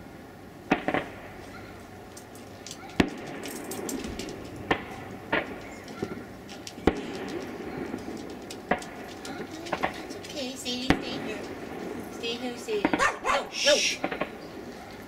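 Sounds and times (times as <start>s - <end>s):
distant fireworks bangs: 0.7s - 15.0s
faint crackling: 0.7s - 15.0s.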